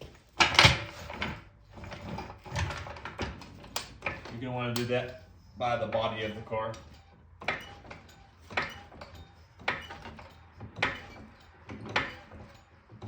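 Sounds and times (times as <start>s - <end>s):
car jack clacking and clicking: 0.0s - 13.0s.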